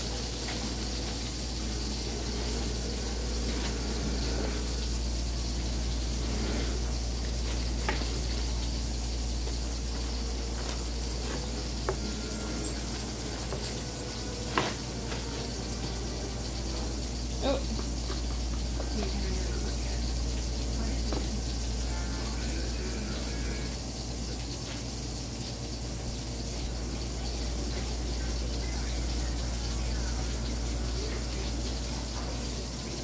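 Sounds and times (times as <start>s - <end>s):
steady sizzle-like hiss: 0.0s - 33.0s.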